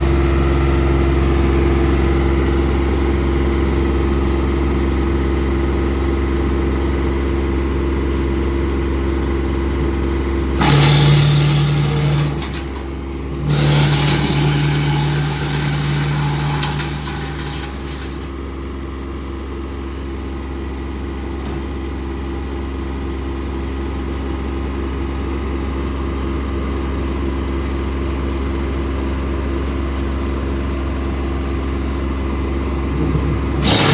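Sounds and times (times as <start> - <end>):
wood chipper running: 0.0 - 33.9.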